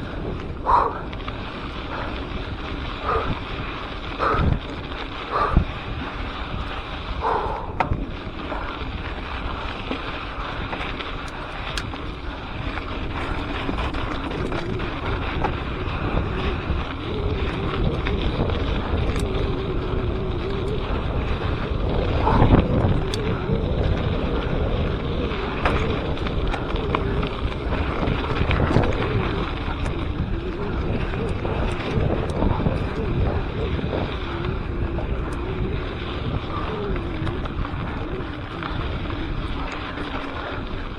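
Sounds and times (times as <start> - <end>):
bike clicks and knocks: 0.0 - 40.9
bike tyres on dirt trail: 0.0 - 40.9
wind buffeting microphone: 0.0 - 40.9.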